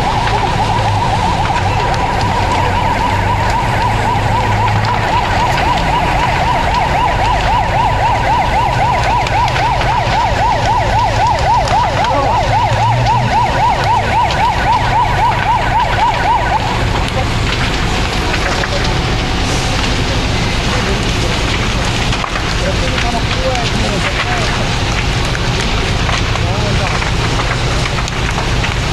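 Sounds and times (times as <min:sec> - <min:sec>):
fire engine siren yelping: 0:00.0 - 0:28.9
low engine rumble: 0:00.0 - 0:28.9.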